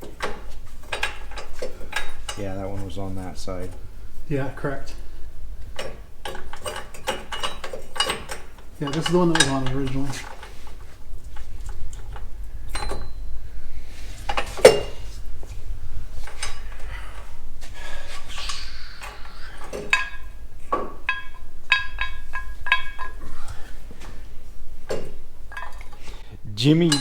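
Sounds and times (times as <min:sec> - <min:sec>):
metal parts clinking and clanking: 0:00.0 - 0:03.9, 0:05.2 - 0:13.2, 0:16.2 - 0:27.0.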